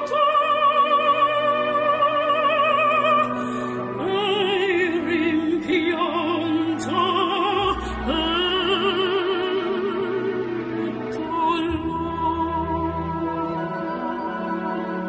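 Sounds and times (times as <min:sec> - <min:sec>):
operatic singing: 0:00.0 - 0:15.0.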